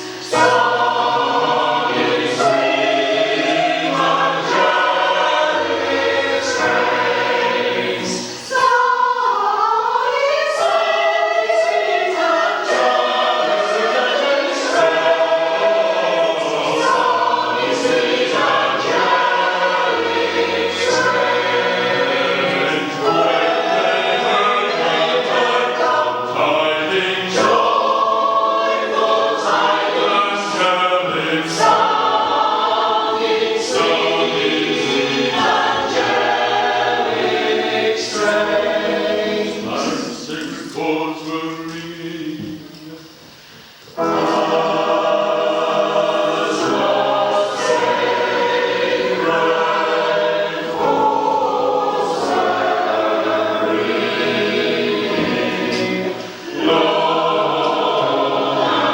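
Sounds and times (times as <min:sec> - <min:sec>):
choir singing a carol: 0:00.0 - 0:58.9.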